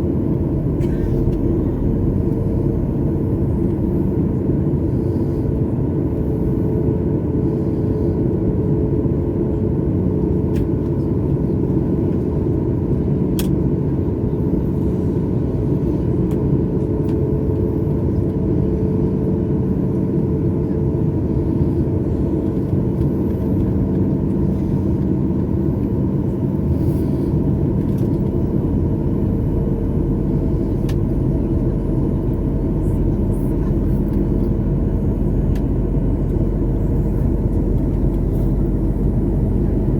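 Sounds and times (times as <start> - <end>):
airliner cabin roar: 0.0 - 39.9
constant low hum: 0.0 - 39.9.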